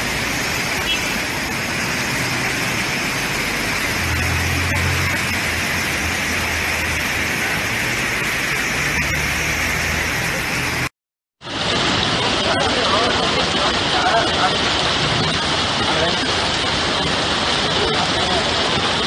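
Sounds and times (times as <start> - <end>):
heavy rain and hail falling: 0.0 - 10.9, 11.5 - 19.0.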